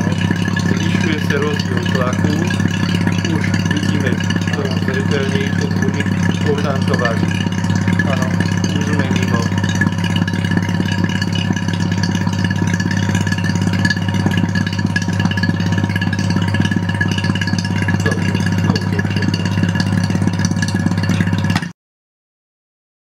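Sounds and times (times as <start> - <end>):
vacuum pump running: 0.0 - 21.7.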